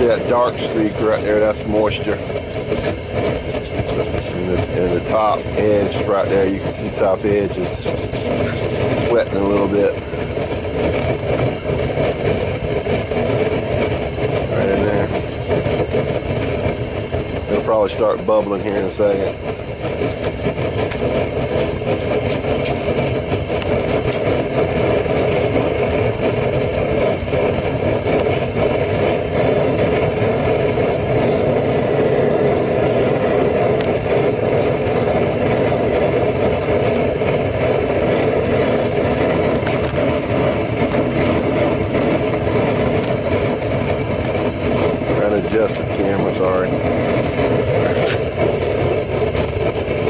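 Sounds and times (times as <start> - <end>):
propane burner rushing: 0.0 - 50.0.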